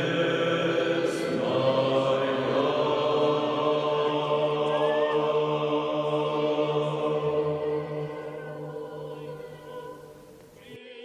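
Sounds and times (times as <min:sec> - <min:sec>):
unaccompanied choir chanting: 0:00.0 - 0:11.0.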